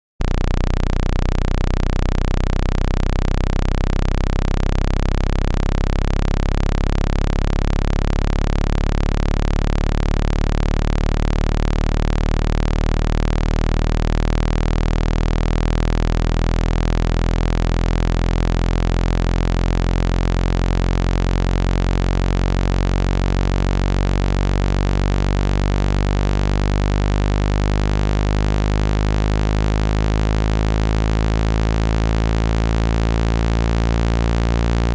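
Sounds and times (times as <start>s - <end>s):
synthesized low hum tone: 0.2s - 34.9s.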